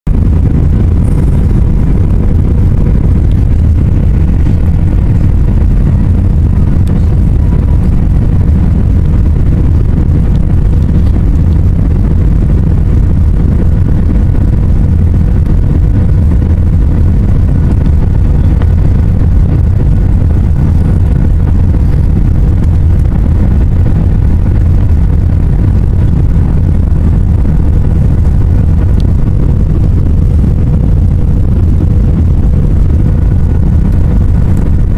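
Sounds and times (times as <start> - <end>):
jet engines and airflow rumble: 0.0 - 34.9
faint steady hum: 0.1 - 34.9.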